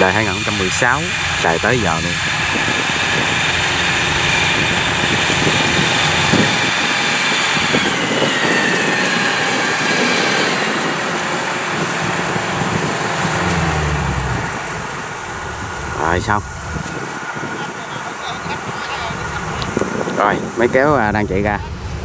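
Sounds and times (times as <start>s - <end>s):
combine harvester running: 0.0s - 22.0s
high machinery whine: 0.0s - 22.0s.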